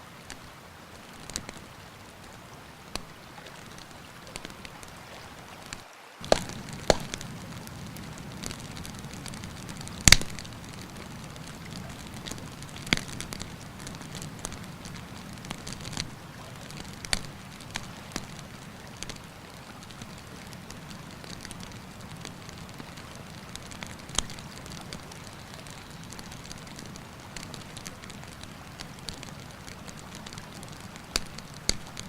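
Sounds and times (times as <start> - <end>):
campfire crackling: 0.0 - 32.0
river rushing: 0.0 - 32.0.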